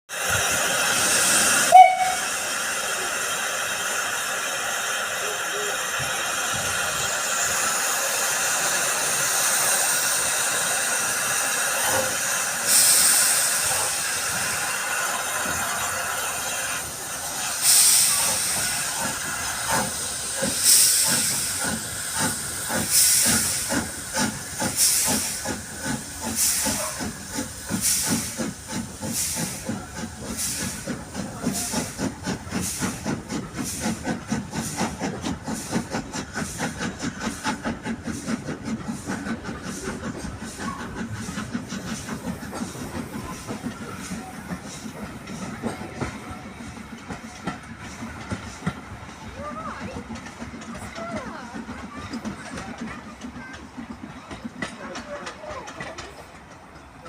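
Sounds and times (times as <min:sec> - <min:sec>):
steam locomotive hissing: 0:00.1 - 0:57.0
locomotive exhaust chuffs: 0:00.2 - 0:55.4.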